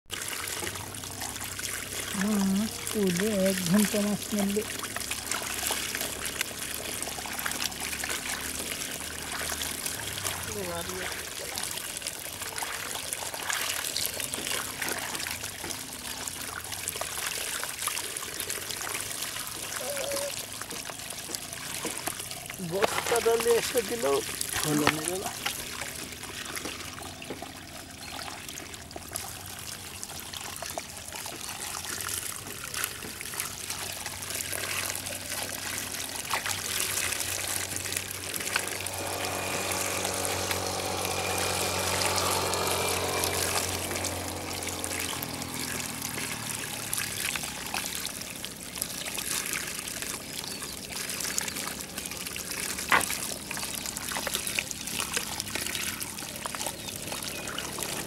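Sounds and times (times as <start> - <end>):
muddy water pouring and trickling: 0.0 - 58.0
motor hum: 0.2 - 58.0.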